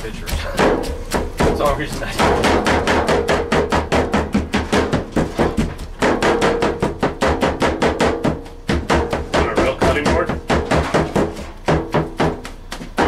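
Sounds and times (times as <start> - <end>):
cleavers chopping on cutting board: 0.0 - 13.0.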